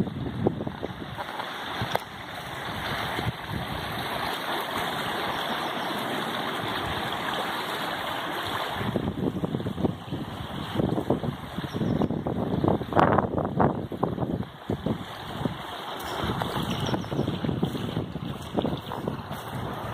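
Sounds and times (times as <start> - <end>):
stream babbling over stones: 0.0 - 19.9.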